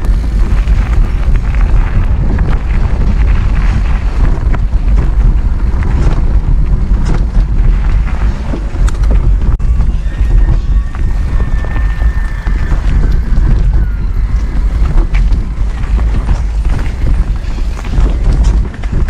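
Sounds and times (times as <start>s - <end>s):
bike clicks and rattles: 0.0s - 19.0s
bike tyres rolling on dirt: 0.0s - 19.0s
wind rumble on microphone: 0.0s - 19.0s.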